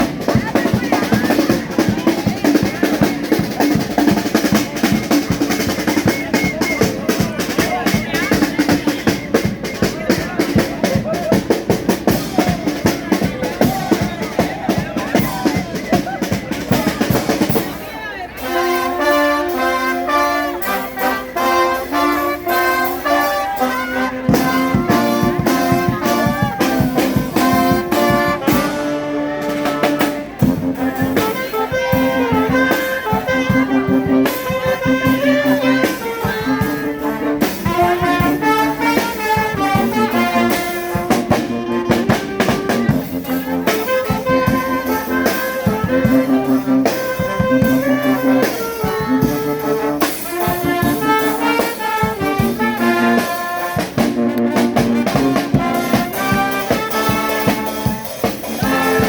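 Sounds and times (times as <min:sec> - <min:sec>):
brass band playing: 0:00.0 - 0:59.0
steady drum beat: 0:00.0 - 0:59.0.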